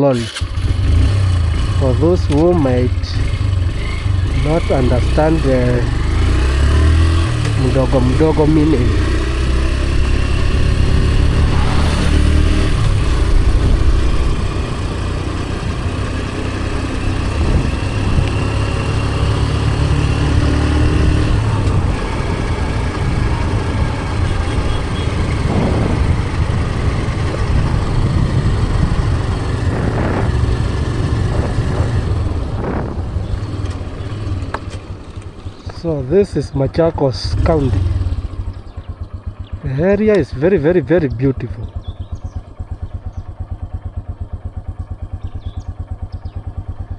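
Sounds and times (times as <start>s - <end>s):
vehicle engine running on road: 0.0s - 46.9s.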